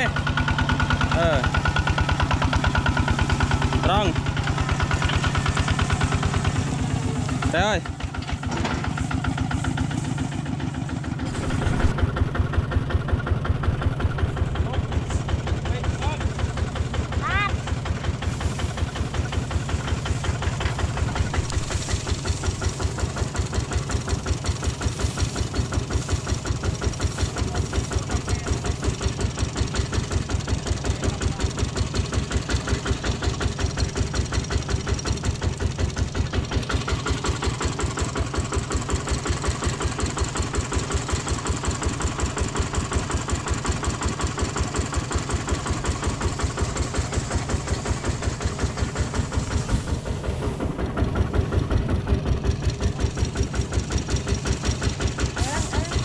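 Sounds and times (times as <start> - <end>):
baler engine running: 0.0 - 56.0.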